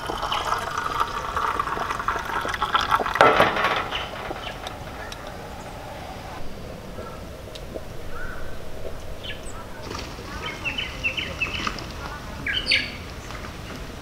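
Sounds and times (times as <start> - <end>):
birds chirping: 0.0 - 14.0
low outdoor background hum: 0.0 - 14.0.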